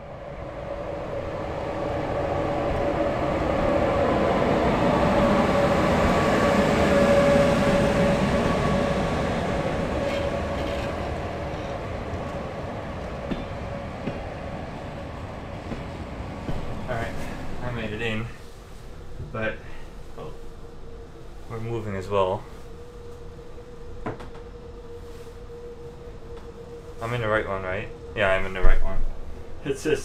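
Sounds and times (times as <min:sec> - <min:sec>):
train wheels rumbling: 0:00.0 - 0:30.0
train whine: 0:00.0 - 0:30.0.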